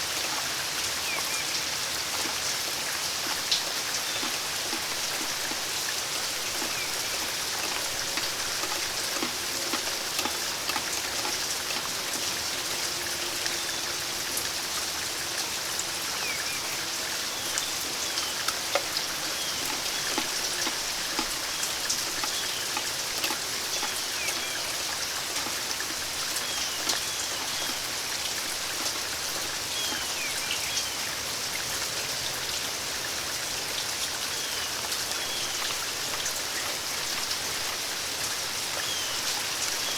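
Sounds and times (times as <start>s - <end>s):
raindrops ticking close by: 0.0s - 39.9s
steady rain: 0.0s - 39.9s.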